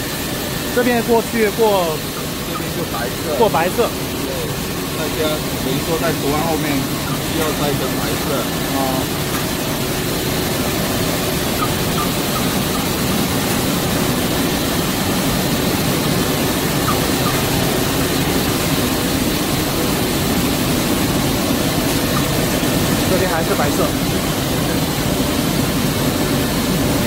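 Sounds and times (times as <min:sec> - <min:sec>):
printing press mechanical din: 0:00.0 - 0:27.0.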